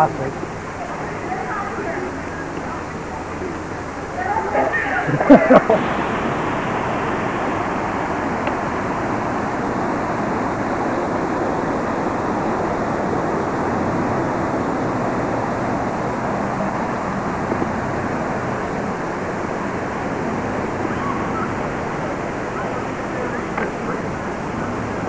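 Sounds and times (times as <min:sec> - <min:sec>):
creek water rushing over rocks: 0:00.0 - 0:25.0.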